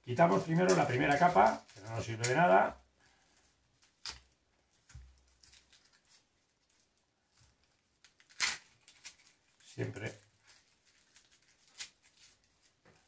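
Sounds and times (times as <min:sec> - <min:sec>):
onion skin crackling and tearing: 0:00.2 - 0:02.7, 0:03.7 - 0:12.8.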